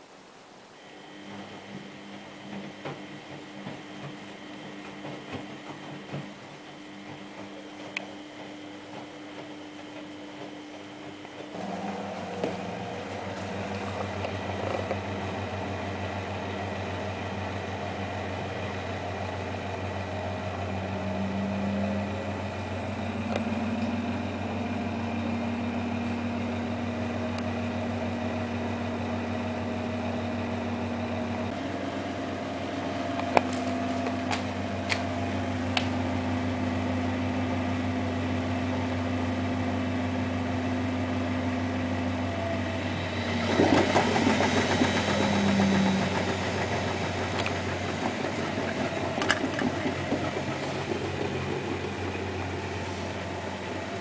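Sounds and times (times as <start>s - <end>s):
washing machine motor humming: 0.4s - 54.0s.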